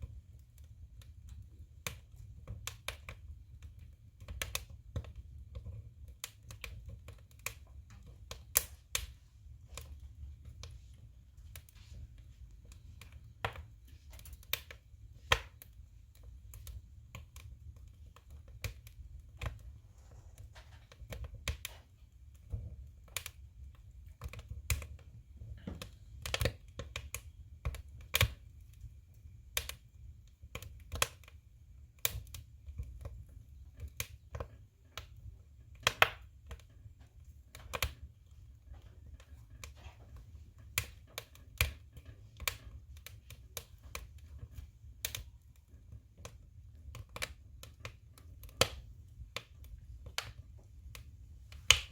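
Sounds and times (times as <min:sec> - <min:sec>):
firewood crackling and popping: 0:00.0 - 0:51.9
low rumble of stove: 0:00.0 - 0:51.9.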